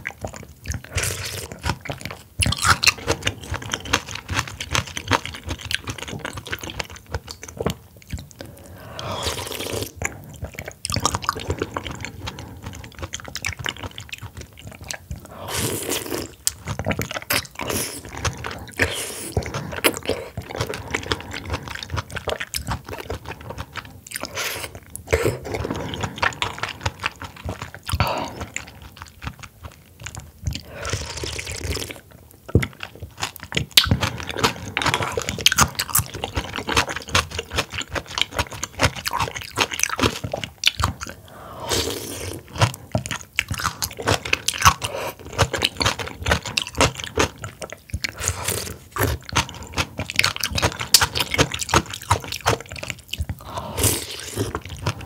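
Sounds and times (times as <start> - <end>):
chewing oysters: 0.0 - 55.0
wet mouth clicks: 0.0 - 55.0.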